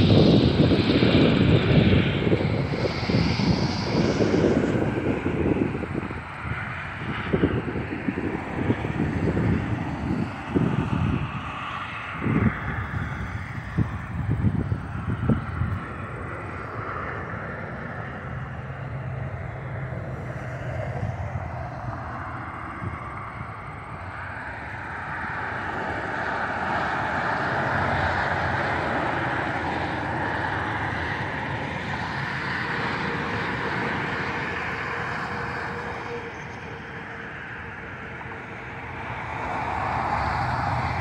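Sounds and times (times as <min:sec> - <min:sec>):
jet airliner flying overhead: 0:00.0 - 0:41.0
steady jet whine: 0:00.0 - 0:41.0.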